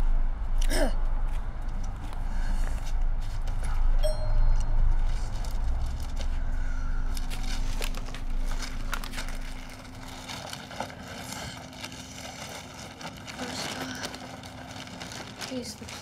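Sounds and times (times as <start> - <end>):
low outside rumble: 0.0 - 16.0
steady low hum: 0.0 - 16.0.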